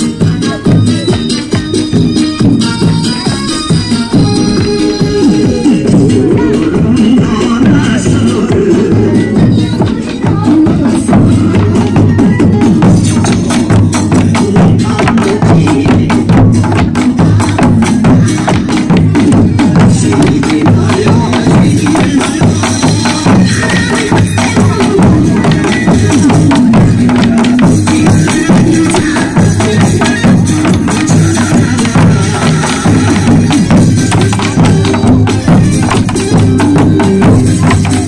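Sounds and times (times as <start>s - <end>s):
folk drumming in fast rhythm: 0.0s - 38.0s.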